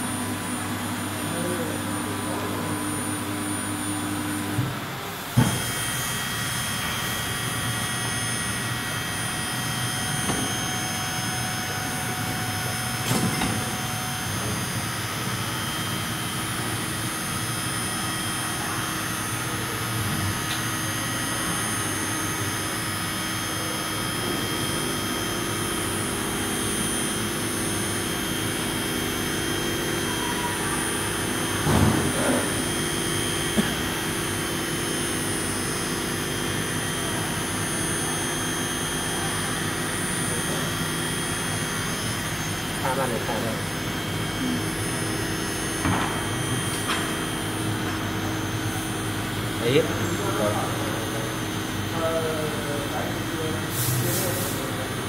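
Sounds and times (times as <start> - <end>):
low steady whine: 0.0 - 55.0
workshop noise: 0.5 - 35.9, 36.6 - 55.0.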